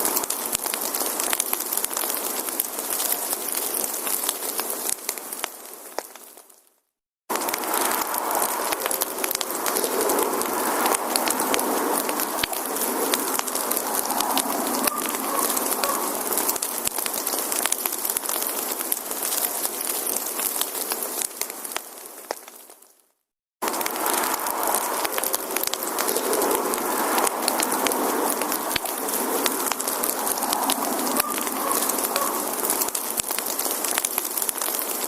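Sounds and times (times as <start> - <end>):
campfire crackling and popping: 0.0 - 6.7, 7.3 - 23.0, 23.6 - 35.0.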